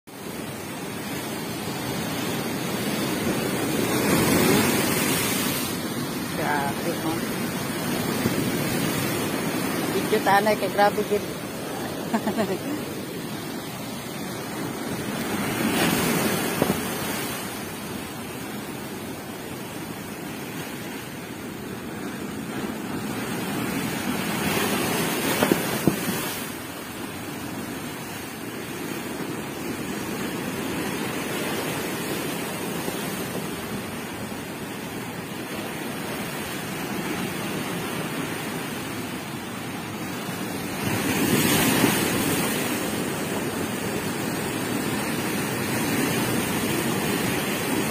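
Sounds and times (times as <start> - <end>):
waves crashing on shore: 0.1 - 47.9.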